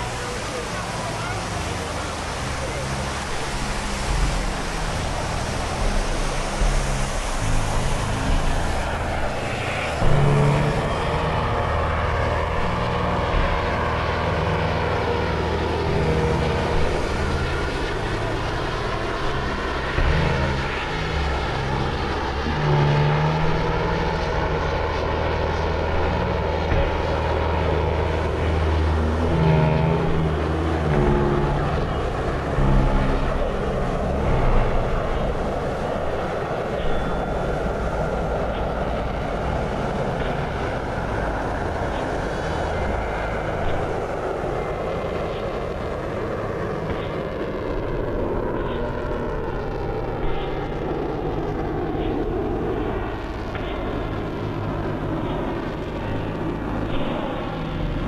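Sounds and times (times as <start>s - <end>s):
jet engine whine: 0.0s - 58.0s
jet engines roaring past: 0.0s - 58.0s.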